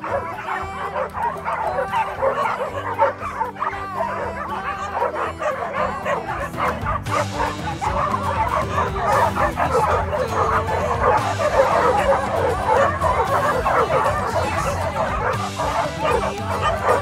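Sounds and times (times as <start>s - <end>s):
background music: 0.0s - 17.0s
dogs barking and yipping: 0.0s - 17.0s.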